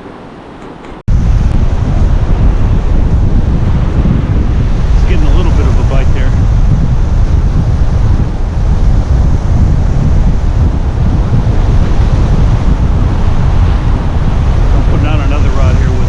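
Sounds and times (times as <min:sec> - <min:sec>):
wind buffeting microphone: 0:00.0 - 0:16.0
surf breaking on beach: 0:01.1 - 0:16.0.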